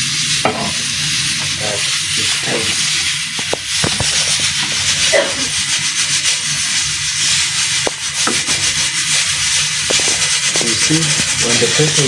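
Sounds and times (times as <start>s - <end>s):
steam hissing from pressure cooker: 0.0s - 12.0s.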